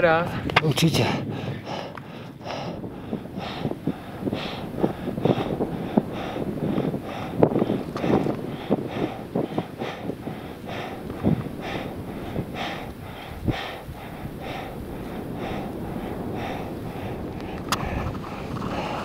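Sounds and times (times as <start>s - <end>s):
wind rumble on microphone: 0.0s - 19.0s
rapid heavy breathing: 0.3s - 19.0s.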